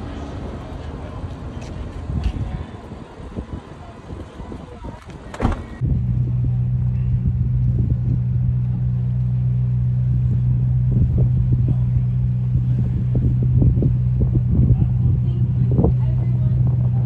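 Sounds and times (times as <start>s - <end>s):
yacht engine rumble: 0.0s - 17.0s.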